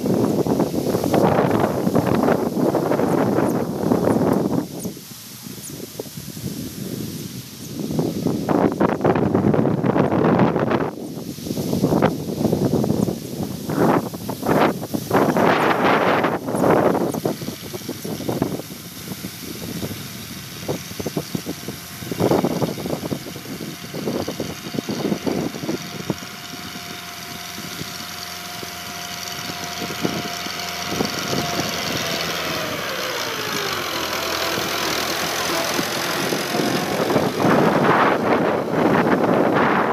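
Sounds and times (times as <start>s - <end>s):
tractor diesel engine under load: 0.0s - 39.9s
wind buffeting microphone: 0.0s - 39.9s.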